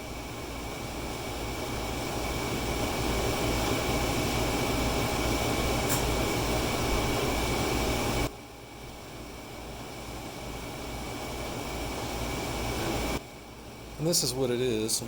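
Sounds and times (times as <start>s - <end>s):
air conditioners humming: 0.0s - 15.0s
thin steady whine: 0.0s - 15.0s.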